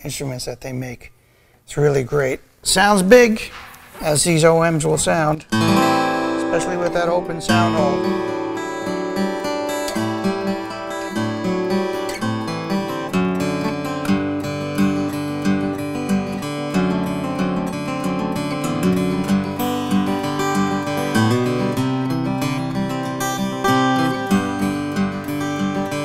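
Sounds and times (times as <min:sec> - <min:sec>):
acoustic guitar ringing notes: 0:03.2 - 0:26.0.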